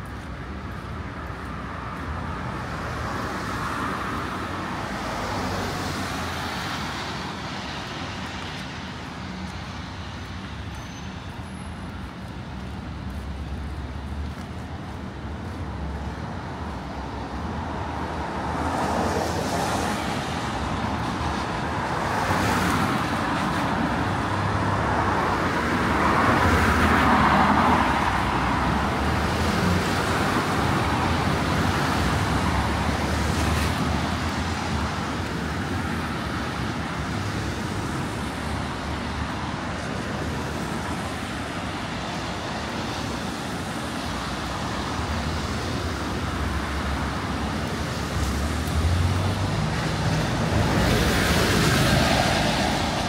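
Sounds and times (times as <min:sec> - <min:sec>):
cars passing with tyre hiss: 0:00.0 - 0:53.0.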